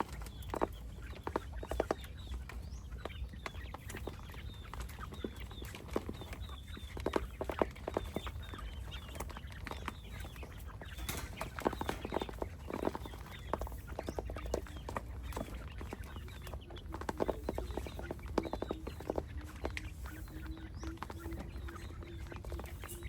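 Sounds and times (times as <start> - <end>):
chickens clucking: 0.0 - 23.0
ticks and rustles: 0.0 - 23.0.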